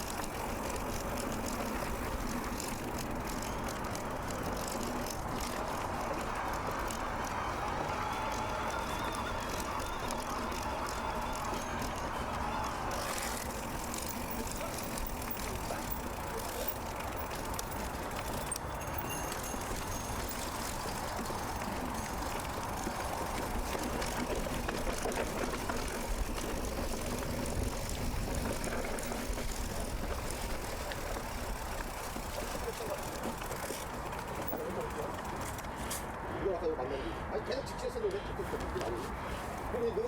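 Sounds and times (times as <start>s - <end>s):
bike tyres rolling: 0.0s - 36.2s.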